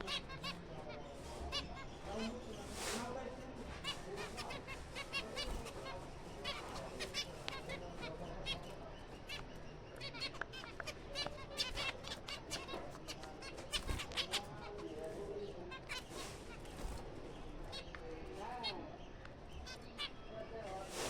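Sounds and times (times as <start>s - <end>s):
finches chirping: 0.0s - 21.0s.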